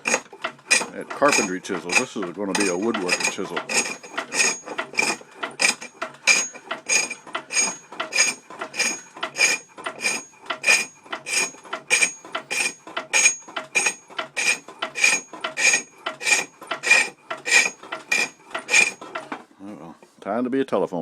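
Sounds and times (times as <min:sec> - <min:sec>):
tool scraping spinning wood: 0:00.0 - 0:19.5.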